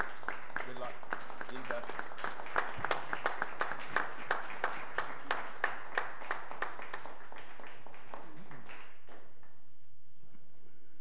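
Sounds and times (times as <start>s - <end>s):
people clapping: 0.0s - 9.7s.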